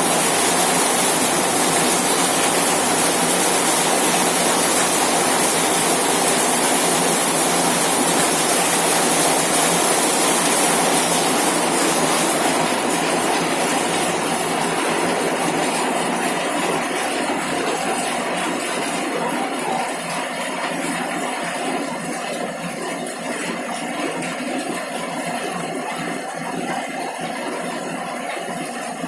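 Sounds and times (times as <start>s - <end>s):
heavy rain on a metal roof: 0.0s - 29.0s.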